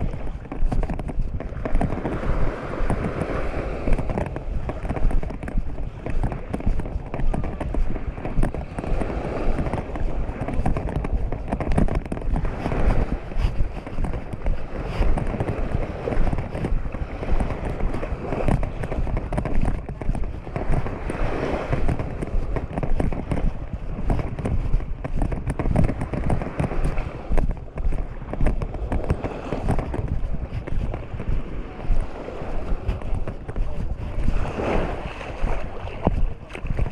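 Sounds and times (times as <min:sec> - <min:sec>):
small waves washing onto sand: 0:00.0 - 0:36.9
wind buffeting microphone: 0:00.0 - 0:36.9.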